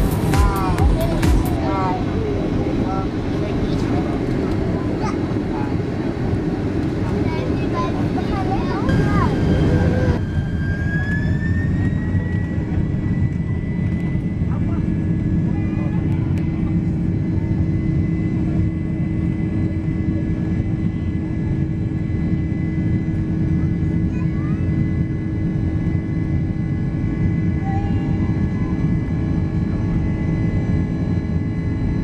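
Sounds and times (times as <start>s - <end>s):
jet engine cabin rumble: 0.0s - 32.0s.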